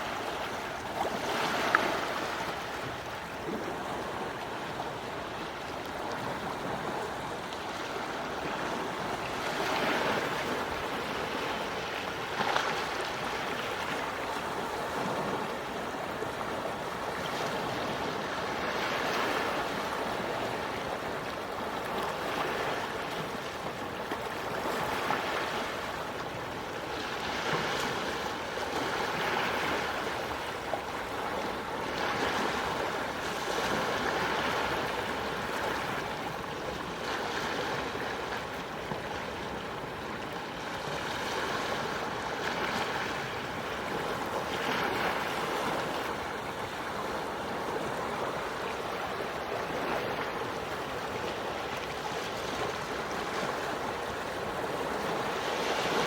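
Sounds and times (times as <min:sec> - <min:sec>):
sea waves washing onto shore: 0:00.0 - 0:56.0.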